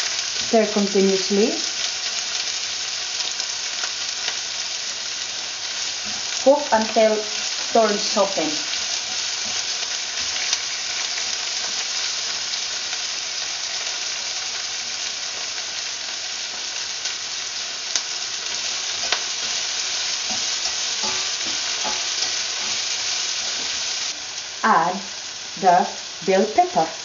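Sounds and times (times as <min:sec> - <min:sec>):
onion sizzling in hot oil: 0:00.0 - 0:27.0.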